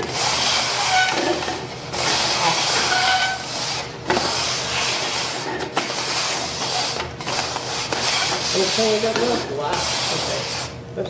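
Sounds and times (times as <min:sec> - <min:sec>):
plastic cups scraping on wooden table: 0:00.0 - 0:10.8.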